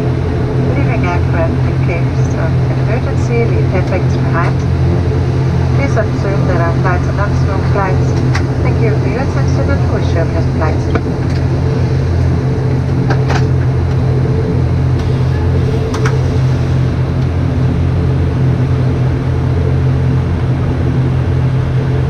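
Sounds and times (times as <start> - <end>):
turboprop engine drone: 0.0 - 22.0.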